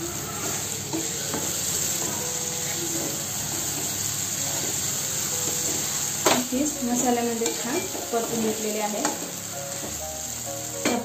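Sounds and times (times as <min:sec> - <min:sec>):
chicken sizzling in oil: 0:00.0 - 0:11.0
spoon stirring in a pan: 0:00.3 - 0:10.0.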